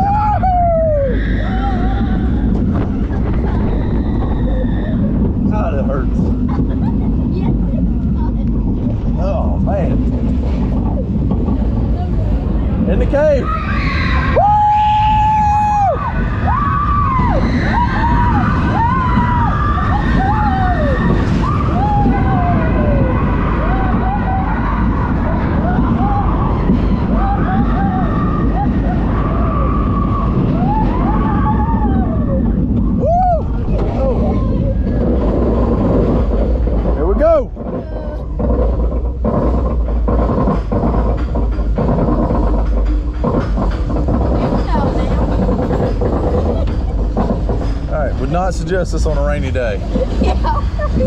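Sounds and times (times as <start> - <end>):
wheels squealing on rails: 0.0 - 6.4, 10.4 - 51.0
roller coaster train rumble: 0.0 - 51.0.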